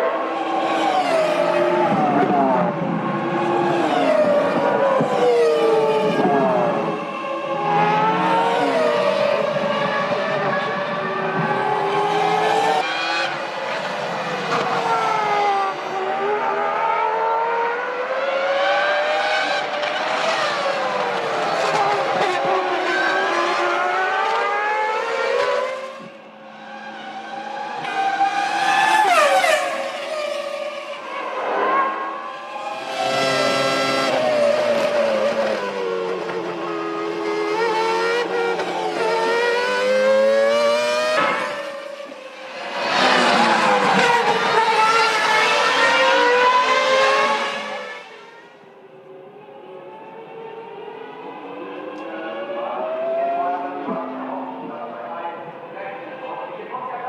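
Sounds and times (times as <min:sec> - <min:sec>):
racing cars passing: 0:00.0 - 0:57.0.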